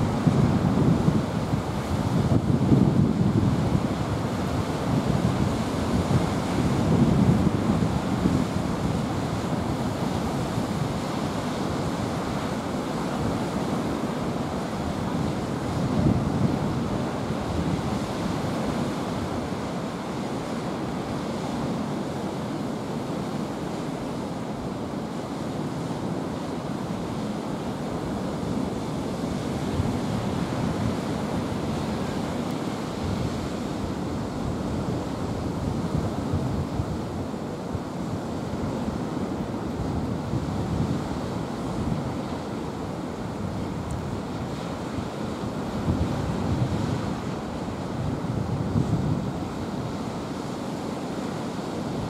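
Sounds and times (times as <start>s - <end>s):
wind buffeting microphone: 0.0s - 19.6s, 28.0s - 50.2s.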